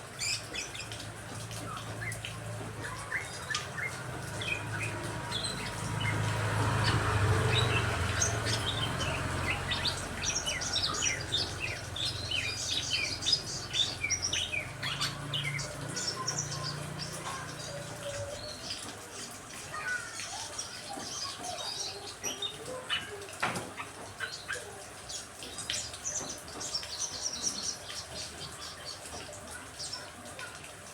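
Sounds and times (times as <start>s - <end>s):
birds chirping and calling: 0.0s - 30.8s.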